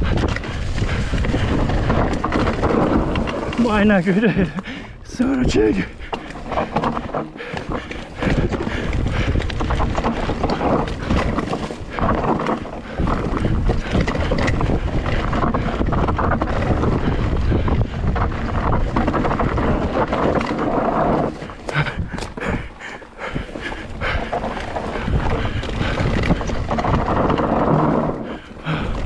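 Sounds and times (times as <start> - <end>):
bike chain and frame rattling: 0.0 - 29.0
tyres on loose dirt: 0.0 - 29.0
wind buffeting microphone: 0.0 - 29.0.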